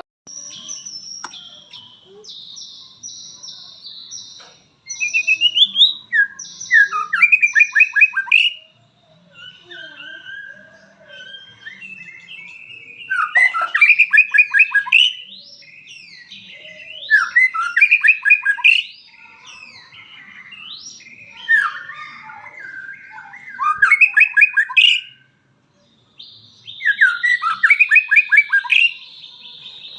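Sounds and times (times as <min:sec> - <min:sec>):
songbird singing: 0:00.0 - 0:29.9.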